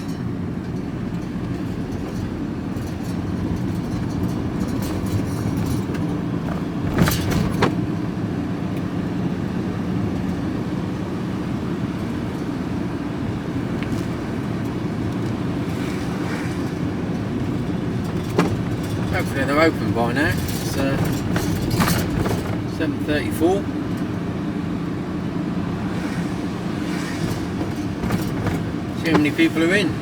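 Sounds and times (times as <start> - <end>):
engine drone: 0.0 - 30.0
road noise: 0.0 - 30.0.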